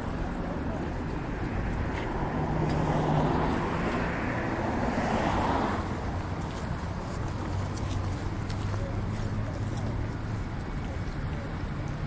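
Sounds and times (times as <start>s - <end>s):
low engine hum: 0.0s - 12.0s
road traffic noise: 0.0s - 12.0s
vehicle passing: 0.0s - 12.0s.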